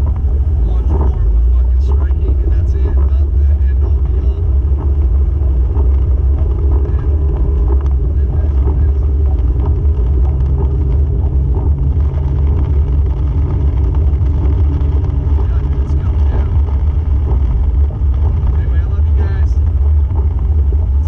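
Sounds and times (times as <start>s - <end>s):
engine and tyres rumbling: 0.0s - 21.0s
heavy rain: 0.0s - 21.0s.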